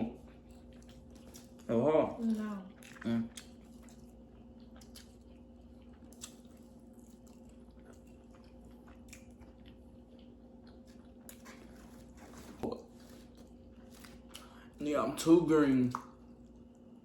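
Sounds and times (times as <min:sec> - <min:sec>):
steady low hum: 0:00.0 - 0:17.0
person chewing: 0:00.1 - 0:14.8.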